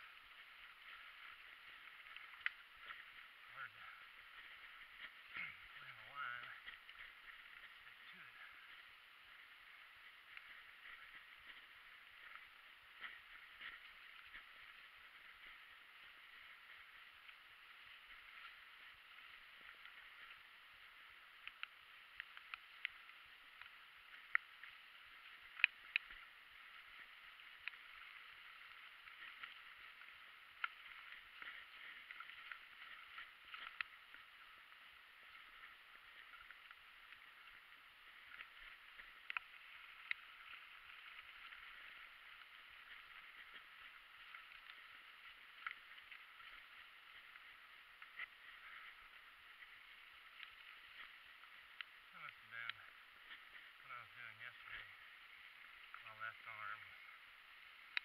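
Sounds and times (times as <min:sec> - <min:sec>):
bike tyres hissing on wet trail: 0:00.0 - 0:58.0.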